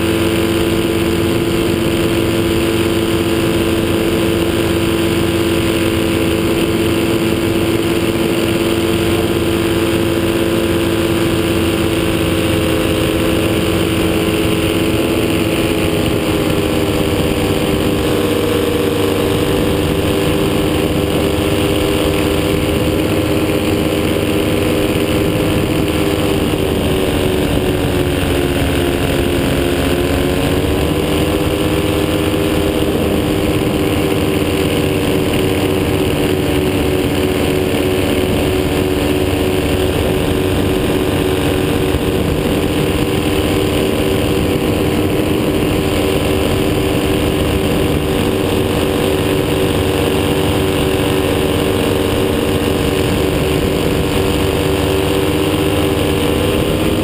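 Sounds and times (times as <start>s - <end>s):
paraglider engine and propeller: 0.0s - 57.0s.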